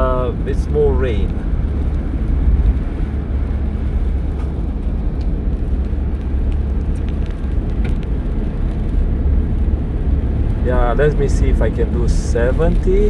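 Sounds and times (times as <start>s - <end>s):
car engine running: 0.0s - 13.0s
tyres rumbling on snow: 0.0s - 13.0s.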